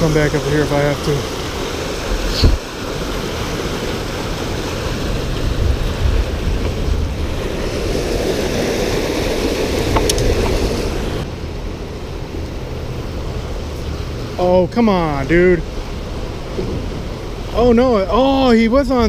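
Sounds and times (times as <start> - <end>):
river water rushing over weir: 0.0 - 19.0.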